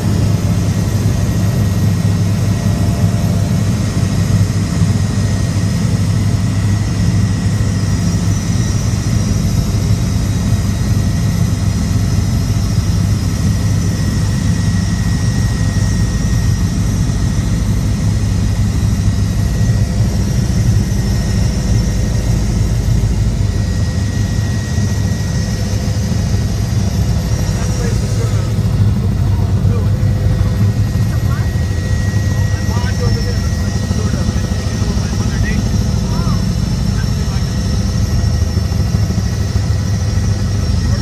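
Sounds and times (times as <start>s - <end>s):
helicopter drone: 0.0s - 41.0s.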